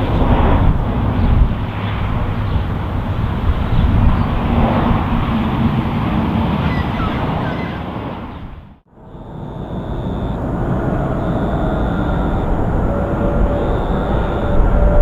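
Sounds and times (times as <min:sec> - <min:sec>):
distant jet airliner rumble: 0:00.0 - 0:15.0
wind buffeting microphone: 0:00.0 - 0:15.0.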